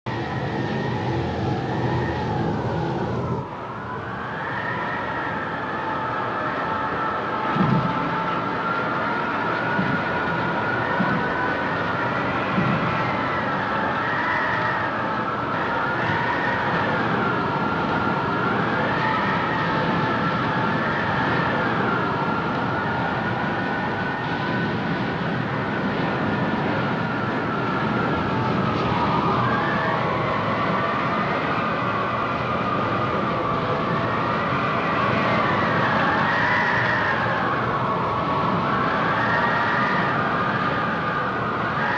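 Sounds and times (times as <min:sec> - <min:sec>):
wind howling and whistling: 0:00.0 - 0:41.9.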